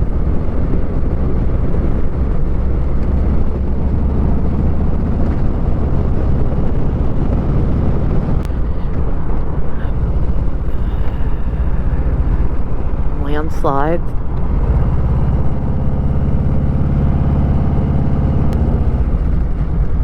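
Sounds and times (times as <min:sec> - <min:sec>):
motorcycle engine running: 0:00.0 - 0:20.0
wind noise: 0:00.0 - 0:20.0.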